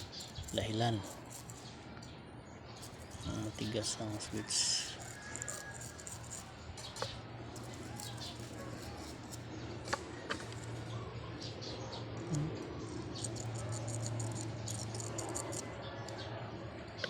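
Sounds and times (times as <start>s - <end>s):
light scratching: 0.0s - 11.1s, 12.5s - 16.3s
steady low hum: 0.0s - 17.0s.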